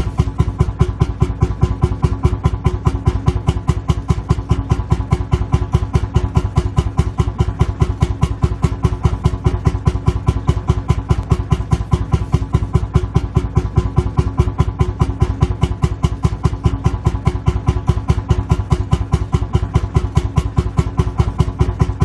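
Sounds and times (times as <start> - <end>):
engine idling with firing thumps: 0.0 - 22.0.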